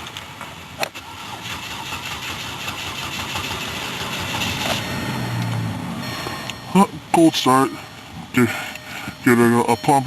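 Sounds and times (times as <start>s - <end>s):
car engine cranking: 0.8s - 9.2s
car engine idling: 1.0s - 9.9s.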